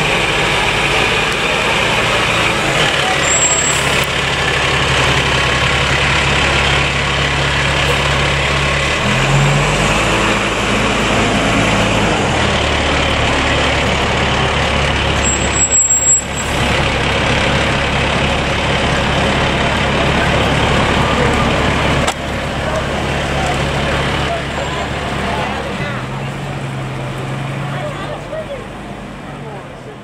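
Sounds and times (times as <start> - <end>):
fire truck diesel engine: 0.0 - 30.0.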